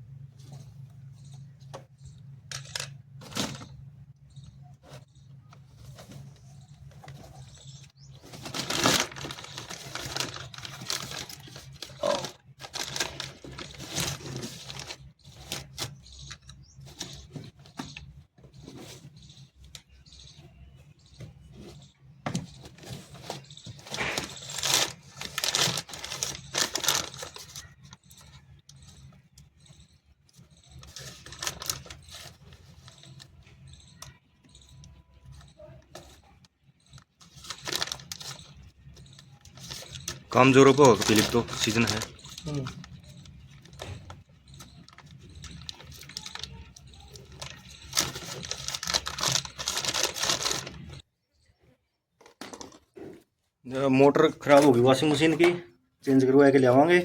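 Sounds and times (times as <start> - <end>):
hand tools and metal parts clinking: 1.2 - 51.0.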